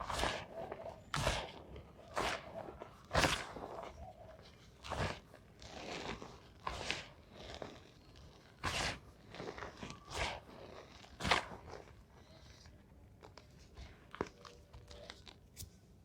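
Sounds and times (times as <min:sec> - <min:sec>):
chalk crunching: 0:00.0 - 0:15.8.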